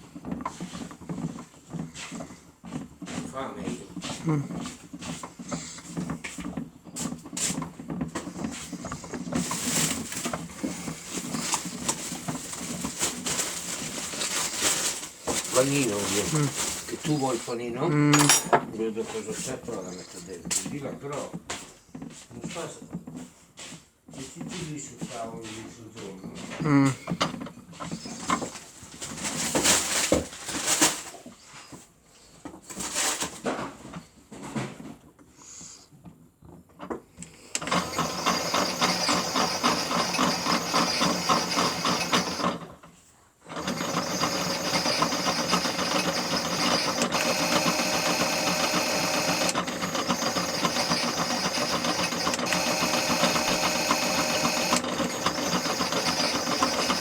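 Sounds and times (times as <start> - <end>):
toy washing machine motor whirring: 0.0 - 21.3, 24.3 - 30.8, 37.3 - 57.0.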